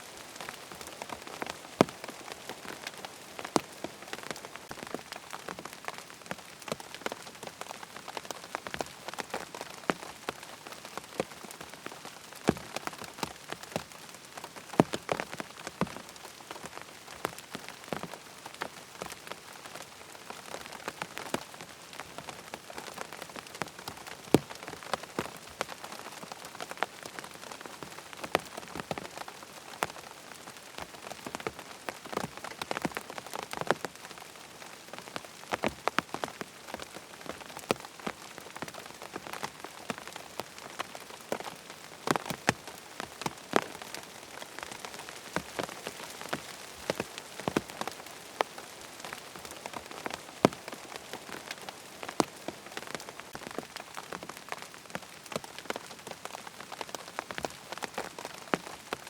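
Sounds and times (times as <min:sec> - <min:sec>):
rain pattering on tent fabric: 0:00.0 - 0:59.0.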